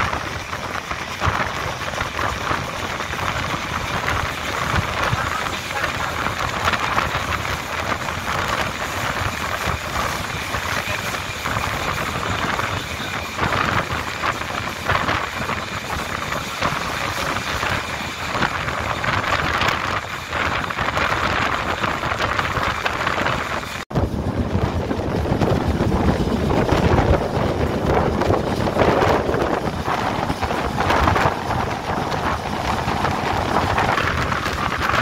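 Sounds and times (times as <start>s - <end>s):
train rattles: 0.0s - 35.0s
train wheels rushing on rails: 0.0s - 35.0s.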